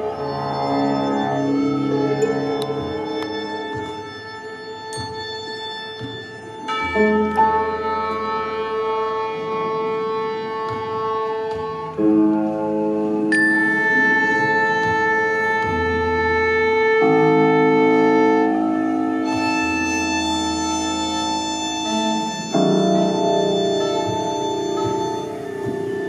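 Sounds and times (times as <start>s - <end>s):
slow held chords: 0.0s - 26.0s.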